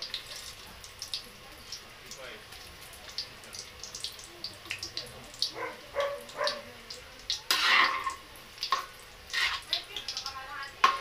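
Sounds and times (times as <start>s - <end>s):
food sizzling in hot oil: 0.0s - 11.0s
hot oil crackling in a wok: 0.0s - 11.0s.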